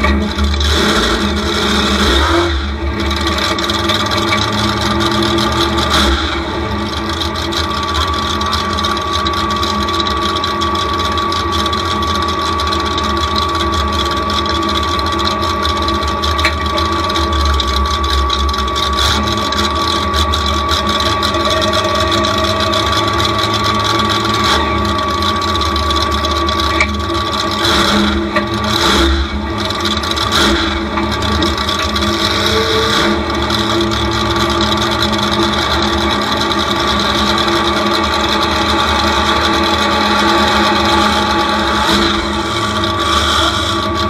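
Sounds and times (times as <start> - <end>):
high whine: 0.0 - 44.0
truck engine idling: 0.0 - 44.0.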